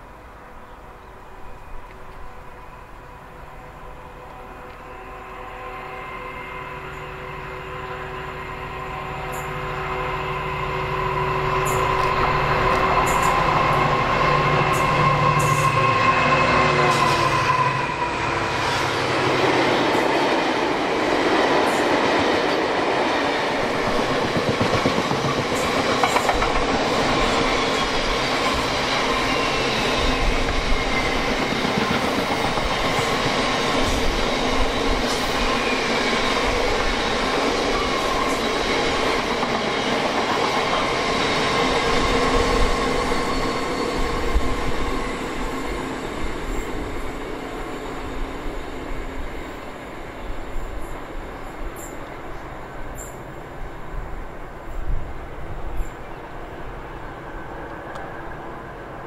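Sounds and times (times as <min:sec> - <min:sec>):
diesel locomotive engine: 0:00.0 - 0:59.0
train wheels rumbling on rail: 0:01.1 - 0:59.0.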